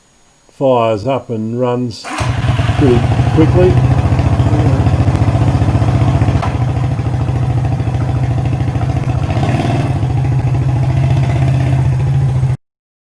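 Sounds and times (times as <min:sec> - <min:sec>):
engine running steadily: 0:02.1 - 0:12.6.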